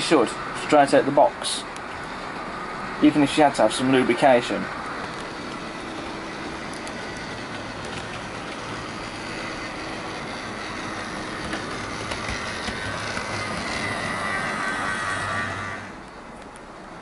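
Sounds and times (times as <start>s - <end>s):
model locomotive running on track: 0.0s - 17.0s.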